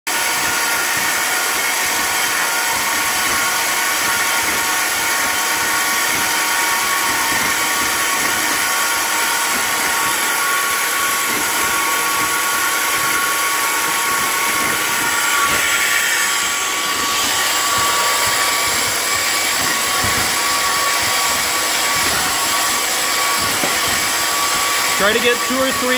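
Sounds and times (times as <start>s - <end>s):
electric motors whining: 0.1s - 25.9s.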